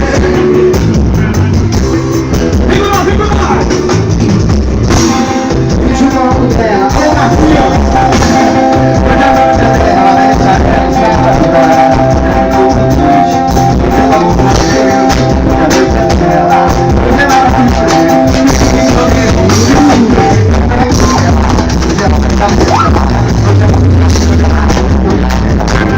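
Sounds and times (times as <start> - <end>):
person singing: 0.0 - 1.2, 5.0 - 25.9
pounding drum rhythm: 0.0 - 25.9.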